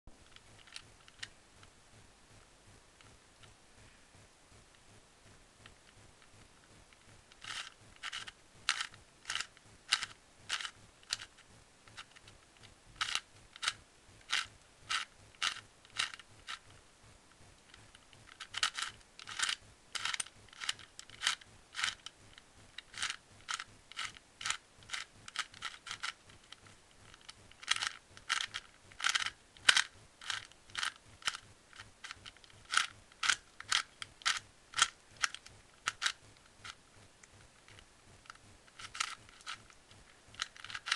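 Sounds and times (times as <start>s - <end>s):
puzzle cube clicking: 0.2s - 1.4s, 7.0s - 16.7s, 17.7s - 40.9s.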